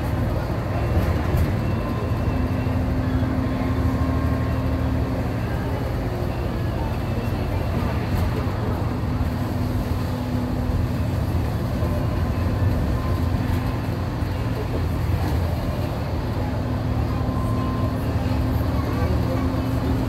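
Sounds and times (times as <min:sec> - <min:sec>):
bus engine droning: 0:00.0 - 0:20.0
road and tyre noise: 0:00.0 - 0:20.0.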